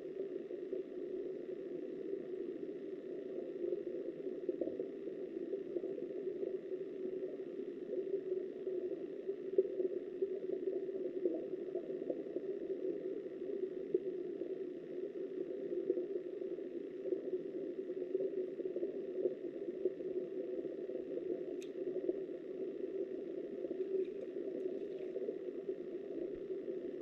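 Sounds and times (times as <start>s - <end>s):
faint ticks: 0.1s - 27.0s
muffled underwater stream rush: 0.4s - 27.0s.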